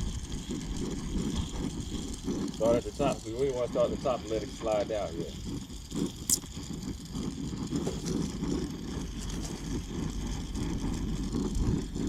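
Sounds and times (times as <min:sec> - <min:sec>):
torch flame rushing rumble: 0:00.0 - 0:12.0.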